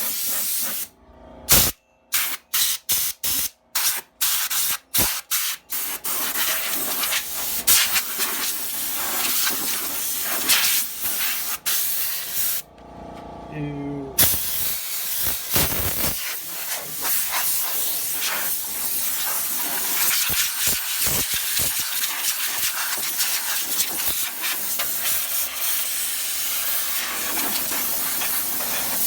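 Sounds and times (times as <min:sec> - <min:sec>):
compressed air hissing: 0:00.0 - 0:00.9, 0:01.5 - 0:12.6, 0:14.2 - 0:29.0.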